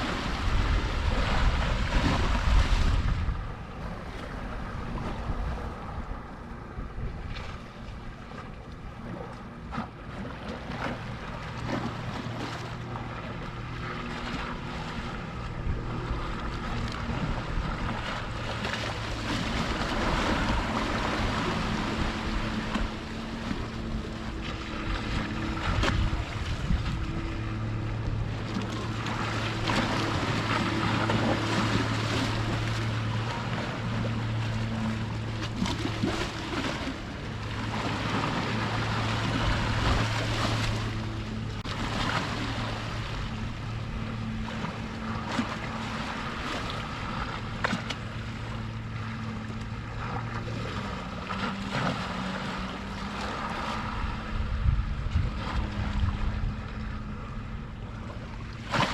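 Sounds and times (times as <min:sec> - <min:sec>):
wind on microphone: 0:00.0 - 0:09.8, 0:13.2 - 0:47.8, 0:51.1 - 0:58.1
boat engine hum: 0:00.0 - 0:58.9
sea water washing: 0:00.0 - 0:58.9.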